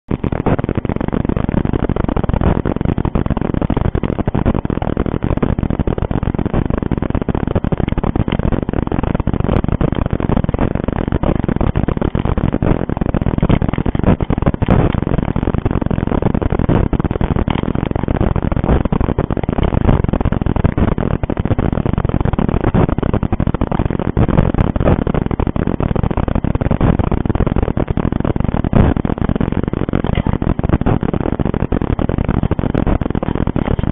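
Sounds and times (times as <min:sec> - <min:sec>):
microphone hiss and crackle: 0:00.0 - 0:33.9.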